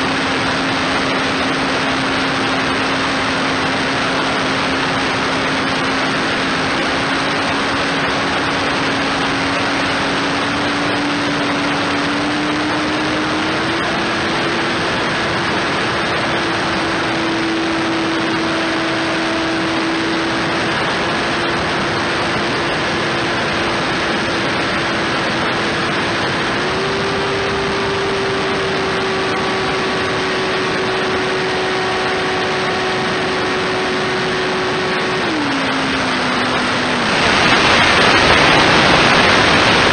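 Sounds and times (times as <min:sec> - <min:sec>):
electric motor whine: 0:00.0 - 0:39.9
wind rush: 0:00.0 - 0:39.9.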